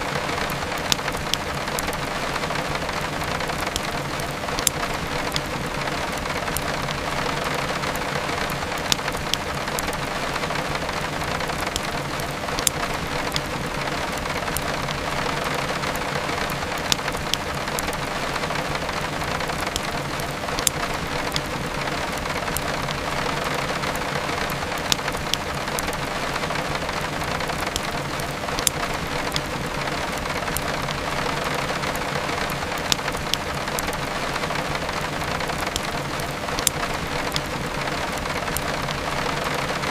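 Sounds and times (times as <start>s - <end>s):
heavy rain: 0.0s - 39.9s
wood fire crackling: 0.0s - 39.9s.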